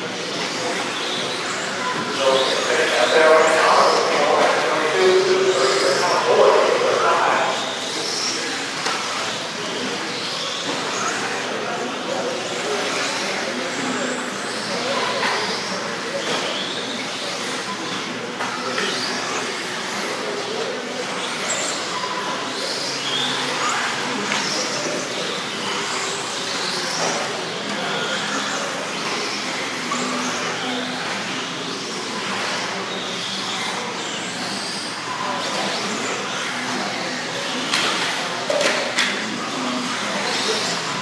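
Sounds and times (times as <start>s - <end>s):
electric motors whining: 0.0s - 41.0s.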